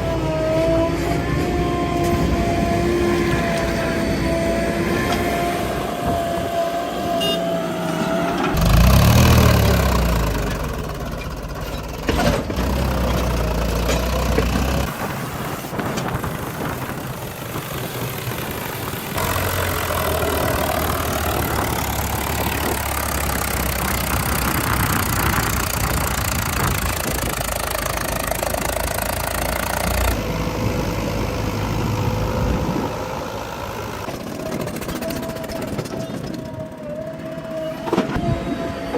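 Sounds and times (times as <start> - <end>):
engine revving: 0.0 - 15.0, 16.6 - 38.9
heavy diesel engines running: 0.0 - 38.9.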